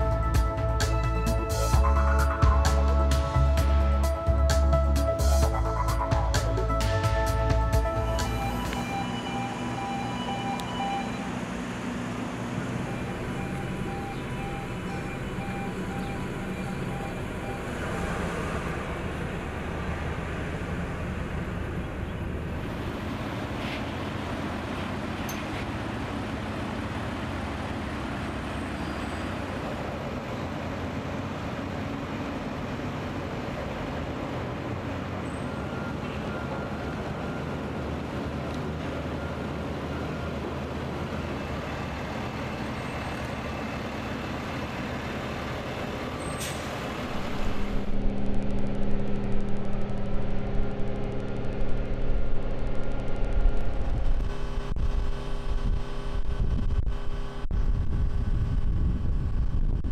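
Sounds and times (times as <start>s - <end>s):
loud rumble with droning hum: 0.0s - 59.9s
truck engines running: 0.0s - 59.9s.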